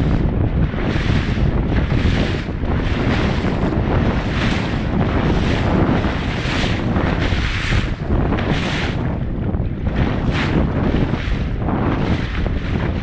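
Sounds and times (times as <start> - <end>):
choppy sea water rushing: 0.0 - 13.0
wind buffeting microphone: 0.0 - 13.0.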